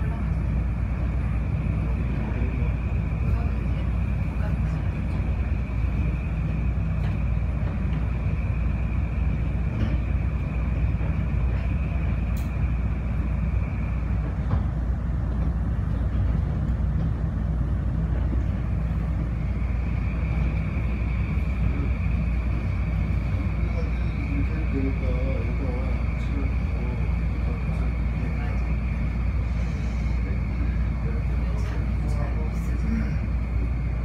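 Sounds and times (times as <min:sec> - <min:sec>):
train low rumble: 0:00.0 - 0:34.0.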